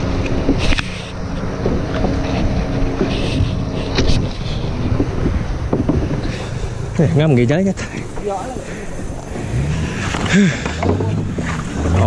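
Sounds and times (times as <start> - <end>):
water sloshing around hull: 0.0 - 12.0
wind buffeting microphone: 0.0 - 12.0.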